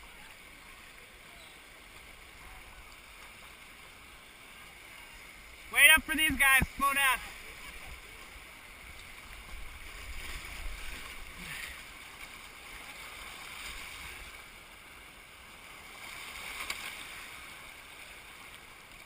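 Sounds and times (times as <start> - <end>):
creek water rushing over rocks: 0.0 - 19.0
water splashes: 0.0 - 19.0.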